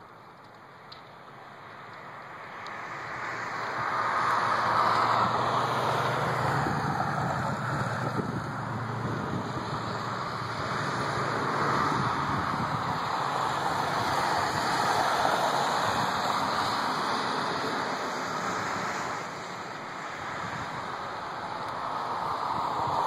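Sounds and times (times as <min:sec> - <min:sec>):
truck engine hum: 0:00.0 - 0:23.0
tyres hissing on wet road: 0:00.6 - 0:23.0
van passing: 0:00.8 - 0:23.0.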